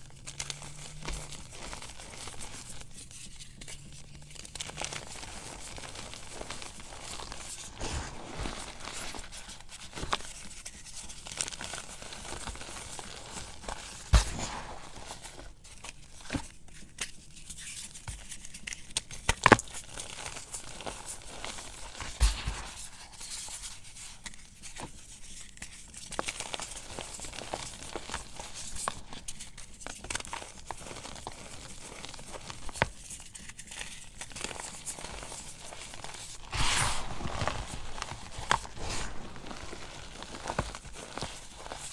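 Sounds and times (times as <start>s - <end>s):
chalk crunching and rustling: 1.0s - 18.8s, 20.0s - 41.9s.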